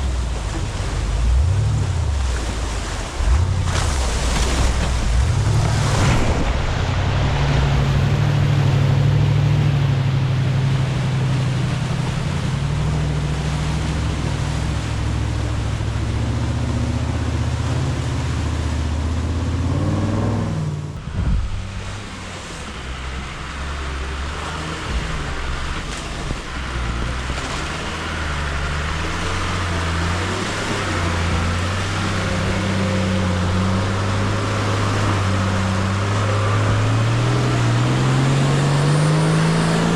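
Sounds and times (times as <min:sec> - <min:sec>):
broad rushing noise: 0:00.0 - 0:39.9
race truck engines running: 0:00.0 - 0:39.9.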